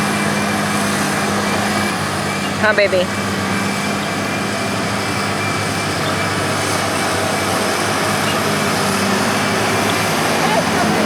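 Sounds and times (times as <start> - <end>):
heavy machinery engines running: 0.0 - 11.0.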